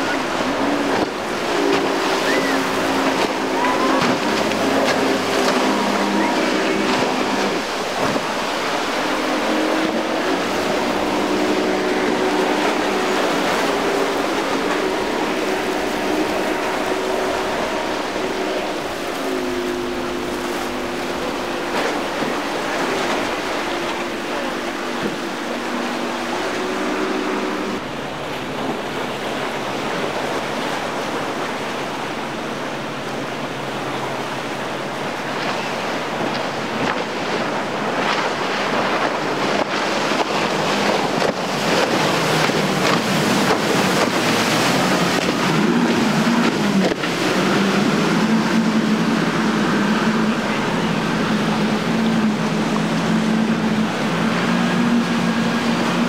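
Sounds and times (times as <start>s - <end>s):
outboard boat engines: 0.0s - 56.0s
waves and spray rushing: 0.0s - 56.0s
wind on microphone: 0.0s - 56.0s.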